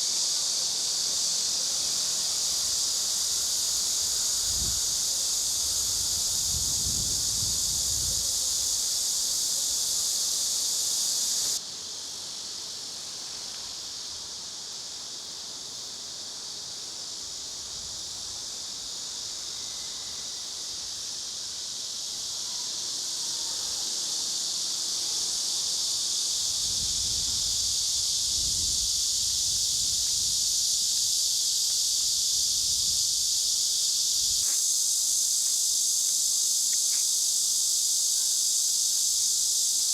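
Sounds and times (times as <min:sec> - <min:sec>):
insects shrilling: 0:00.0 - 0:11.6, 0:18.0 - 0:39.9.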